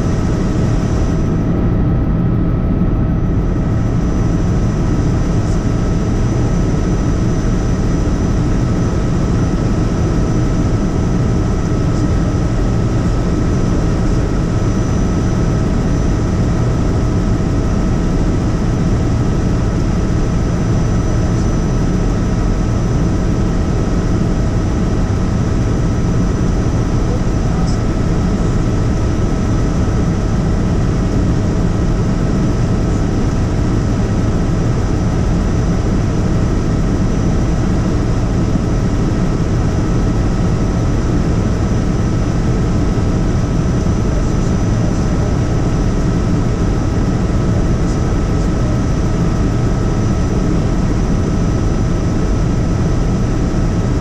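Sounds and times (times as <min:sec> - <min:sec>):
helicopter rotor drone: 0:00.0 - 0:54.0
high whine: 0:00.0 - 0:54.0.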